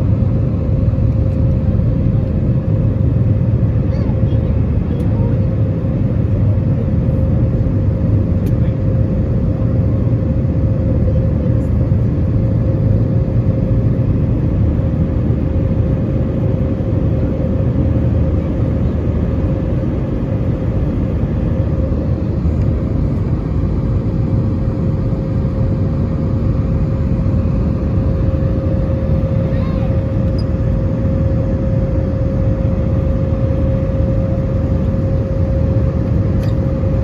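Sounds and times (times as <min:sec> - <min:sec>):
constant engine tone: 0:00.0 - 0:37.0
jet engine rumble in cabin: 0:00.0 - 0:37.0.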